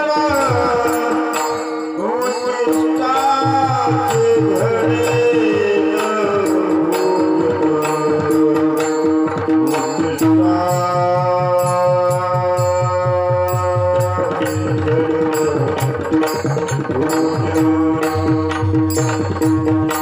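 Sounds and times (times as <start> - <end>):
fast hand drum: 0.0 - 20.0.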